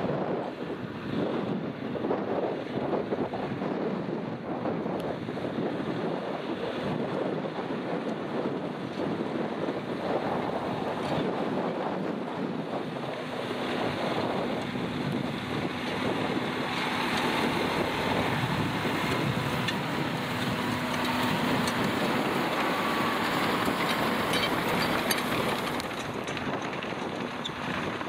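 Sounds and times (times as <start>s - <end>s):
wind on microphone: 0.0s - 28.0s
tractor diesel engine under load: 3.4s - 28.0s.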